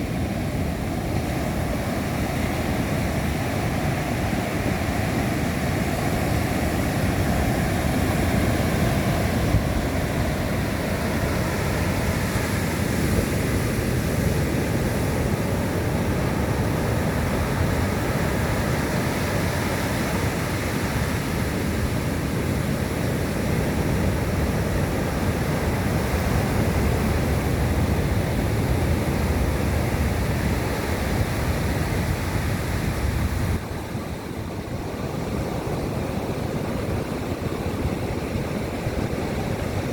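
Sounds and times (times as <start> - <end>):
surf waves breaking: 0.0 - 39.9
wind blowing over microphone: 0.0 - 39.9.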